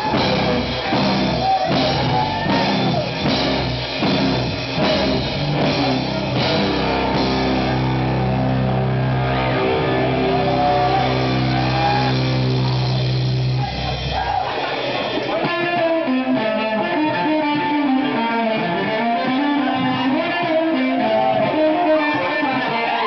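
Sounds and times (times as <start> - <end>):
electric guitar bending notes: 0.0 - 23.0
live band chord with deep bass: 0.0 - 23.0.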